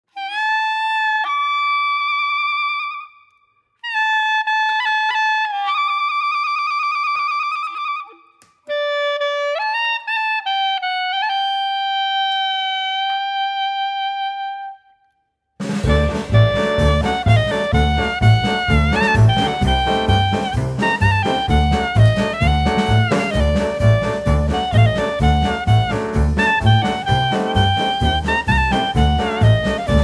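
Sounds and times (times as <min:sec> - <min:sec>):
solo wind instrument melody: 0:00.1 - 0:15.1, 0:15.8 - 0:30.0.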